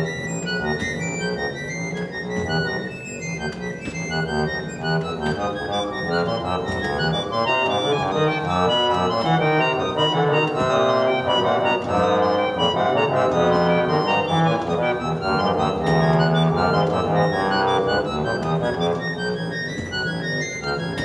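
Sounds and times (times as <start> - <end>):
harmonium playing: 0.0 - 21.0.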